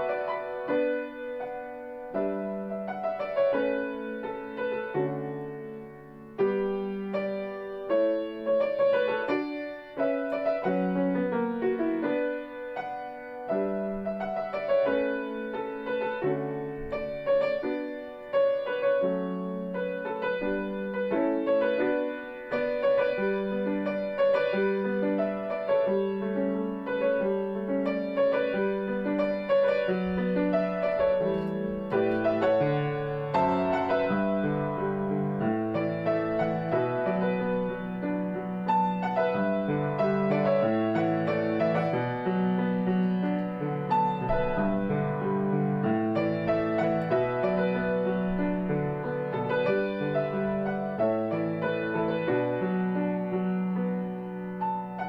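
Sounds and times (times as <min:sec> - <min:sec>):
solo piano ballad: 0:00.0 - 0:55.0.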